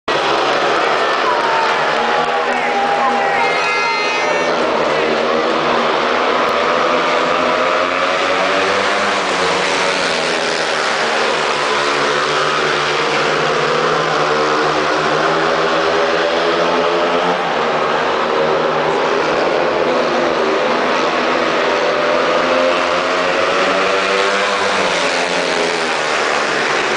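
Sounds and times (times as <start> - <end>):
motorcycles racing at high revs: 0.1 - 26.9.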